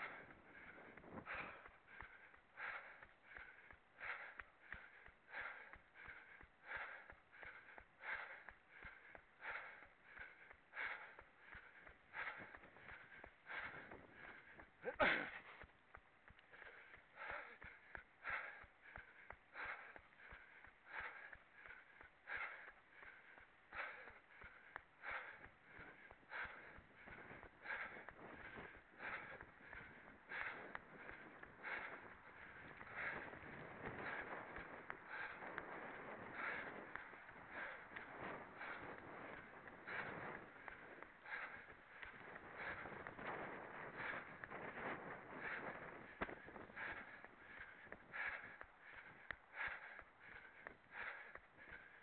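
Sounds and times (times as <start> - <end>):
faint ticking footfalls: 0.0 - 52.0
runner breathing hard: 0.0 - 52.0.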